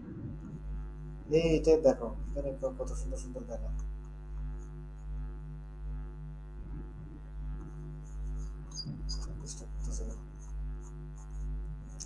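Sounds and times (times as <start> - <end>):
low electrical hum and buzz: 0.0 - 12.0.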